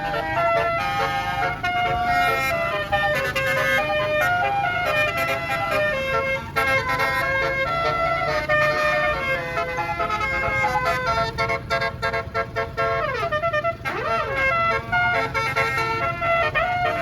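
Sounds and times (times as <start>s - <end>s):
low rumble of bus engine: 0.0s - 17.0s
multi-note bus air horn tune: 0.0s - 17.0s.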